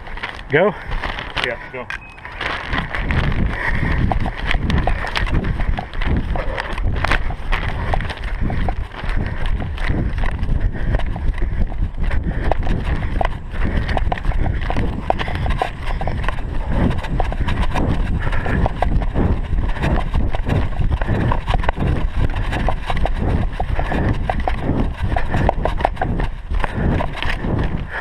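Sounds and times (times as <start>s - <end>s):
microphone jostling: 0.0s - 28.0s
running footsteps on grass: 0.0s - 28.0s
wind rumble: 0.0s - 28.0s.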